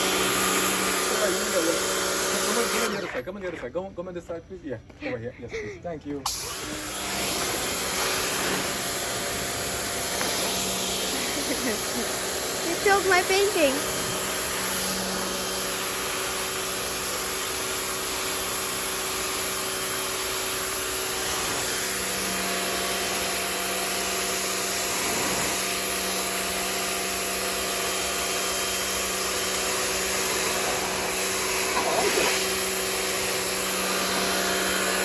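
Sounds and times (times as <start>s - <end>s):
pressure washer pump humming: 0.0s - 3.2s, 6.2s - 35.0s
water jet spraying on concrete: 1.0s - 2.9s, 6.3s - 18.9s, 20.2s - 35.0s.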